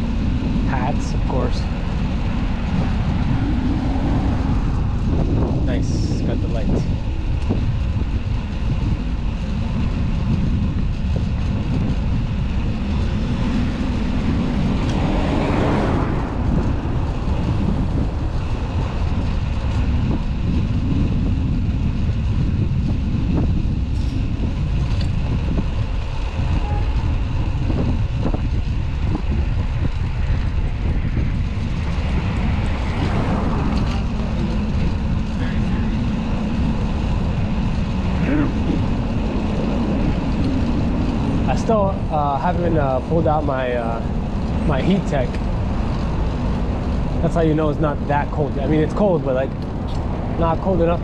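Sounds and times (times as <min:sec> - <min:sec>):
vehicle passing: 0:00.0 - 0:08.8, 0:11.9 - 0:22.1, 0:23.6 - 0:51.0
city traffic: 0:00.0 - 0:51.0
wind rushing: 0:00.0 - 0:51.0.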